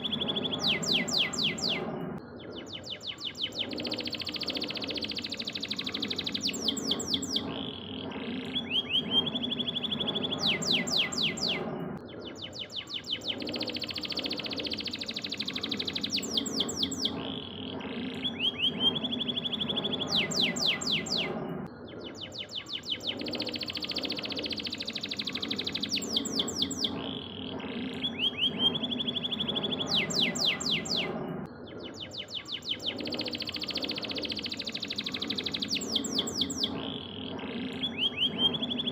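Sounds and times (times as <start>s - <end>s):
canary singing trills: 0.0s - 38.9s
steady low hum: 0.0s - 38.9s.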